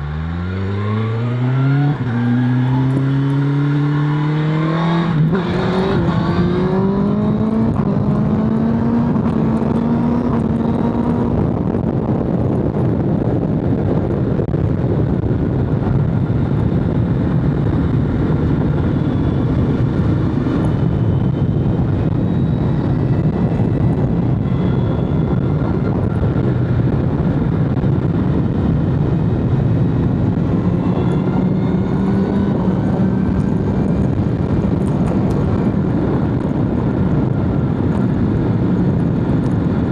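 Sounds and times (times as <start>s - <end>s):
motorcycle engine revving: 0.0s - 13.3s, 15.4s - 39.9s
wind and road noise: 0.0s - 39.9s.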